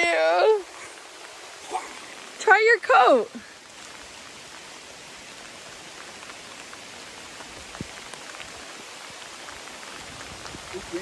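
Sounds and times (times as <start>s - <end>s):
raindrops ticking: 0.0s - 11.0s
steady rain falling: 0.0s - 11.0s.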